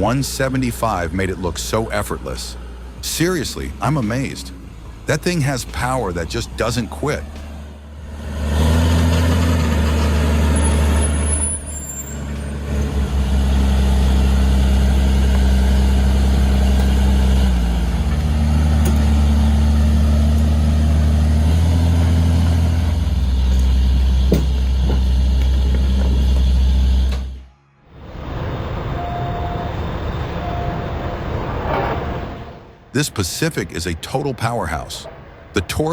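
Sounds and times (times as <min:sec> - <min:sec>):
diesel engine running under load: 0:00.0 - 0:35.4.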